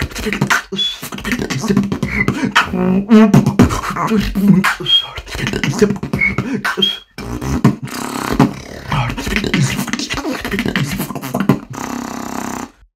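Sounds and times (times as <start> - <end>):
low vocal bass tones: 0.0 - 6.6, 7.2 - 12.9
beatboxing mouth percussion: 0.0 - 12.9.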